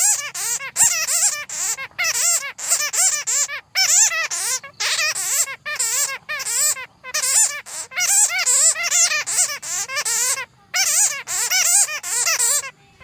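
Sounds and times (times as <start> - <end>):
bats chattering: 0.0 - 12.7.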